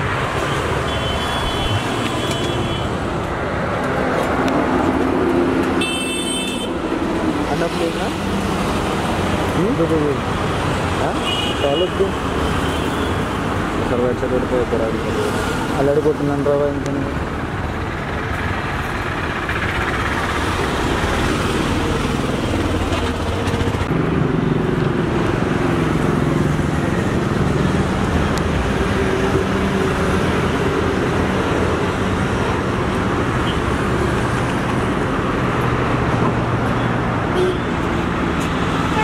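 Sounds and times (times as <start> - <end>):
road traffic noise: 0.0 - 39.0.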